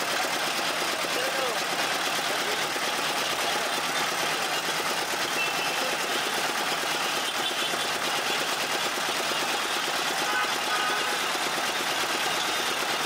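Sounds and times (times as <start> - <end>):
crushing machine mechanical rattle: 0.0 - 13.0.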